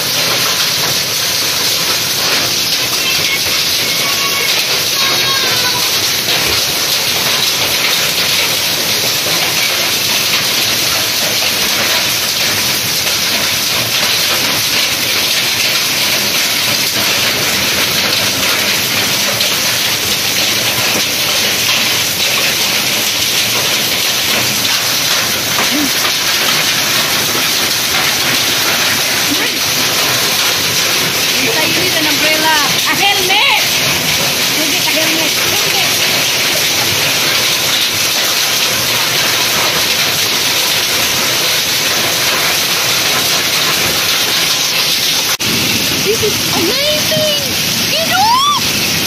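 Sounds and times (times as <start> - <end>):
heavy rain and hail on concrete: 0.0 - 49.0.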